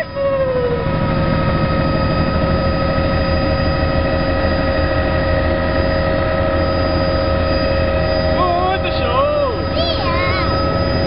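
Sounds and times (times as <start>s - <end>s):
helicopter high-pitched whine: 0.0s - 11.0s
helicopter low throbbing rumble: 0.0s - 11.0s.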